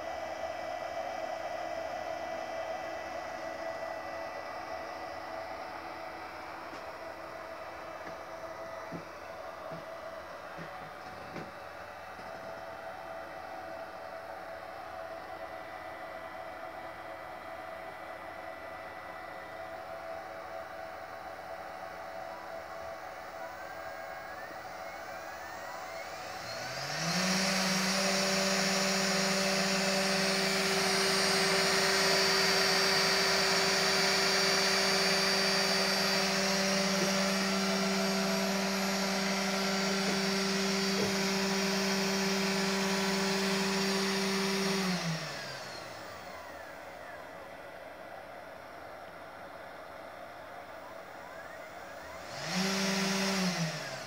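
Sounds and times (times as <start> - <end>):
milling machine motor whining: 0.0 - 54.0.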